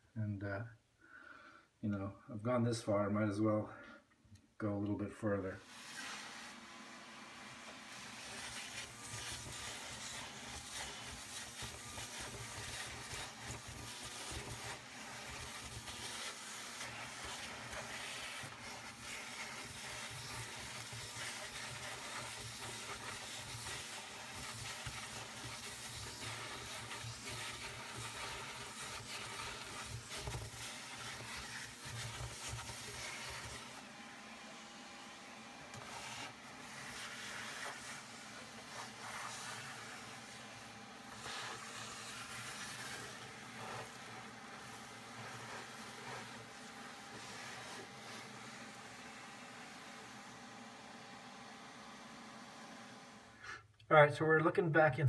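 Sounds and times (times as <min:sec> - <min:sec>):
shop vacuum rushing hiss: 0:05.5 - 0:53.7.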